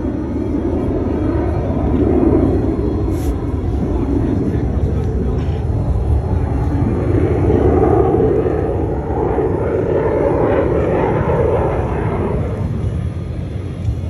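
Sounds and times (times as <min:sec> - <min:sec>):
fighter jet engine rush: 0:00.0 - 0:14.0.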